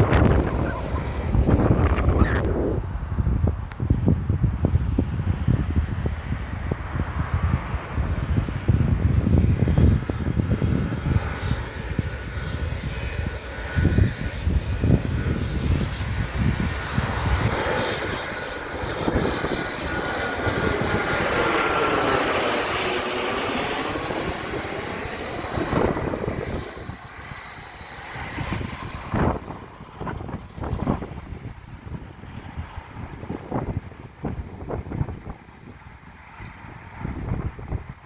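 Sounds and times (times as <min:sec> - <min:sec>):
airliner engines passing overhead: 0:00.0 - 0:38.0
faint engine whine: 0:00.0 - 0:38.0
wind buffeting microphone: 0:00.0 - 0:38.0.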